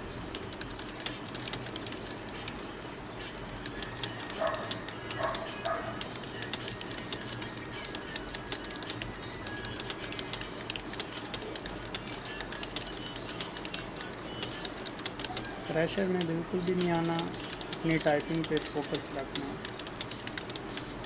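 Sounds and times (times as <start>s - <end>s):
fast keyboard typing: 0.2s - 2.8s, 3.6s - 21.0s.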